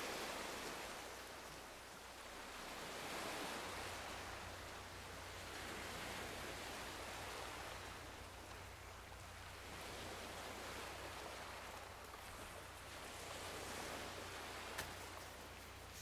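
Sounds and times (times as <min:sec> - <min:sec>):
waves washing onto beach: 0:00.0 - 0:16.0.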